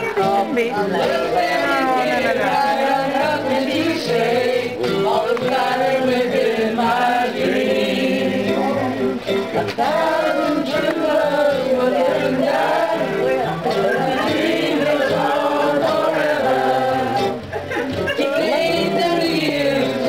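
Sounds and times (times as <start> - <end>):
group of people singing: 0.0 - 20.0.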